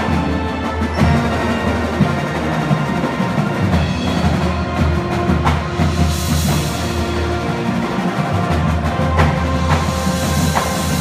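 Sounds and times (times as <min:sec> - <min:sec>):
brass instruments: 0:00.0 - 0:11.0
drums and percussion: 0:00.0 - 0:11.0.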